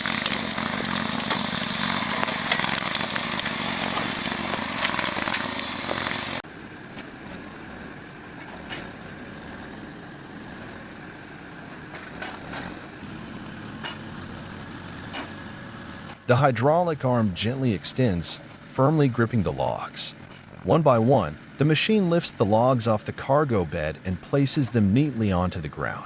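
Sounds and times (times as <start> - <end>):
loud engine running: 0.0 - 26.0
quieter engine running: 0.0 - 26.0.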